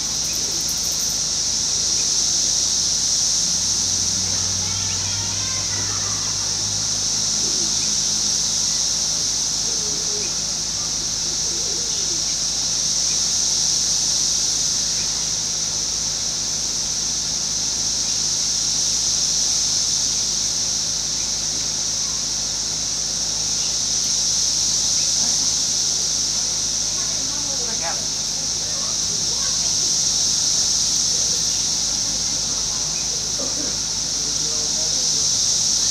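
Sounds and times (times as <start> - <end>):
cicadas droning: 0.0 - 35.9.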